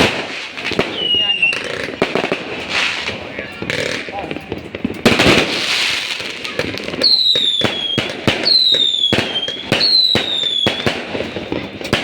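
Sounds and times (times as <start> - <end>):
fireworks bangs: 0.0 - 12.0
whistling fireworks: 0.0 - 12.0.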